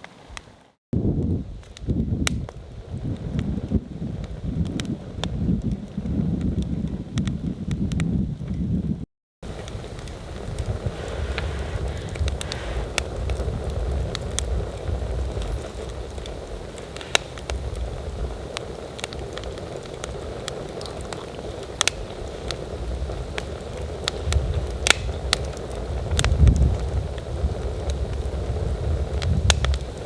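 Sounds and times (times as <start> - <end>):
wood fire crackling and popping: 0.1 - 30.0
wind gusts on microphone: 0.2 - 30.0.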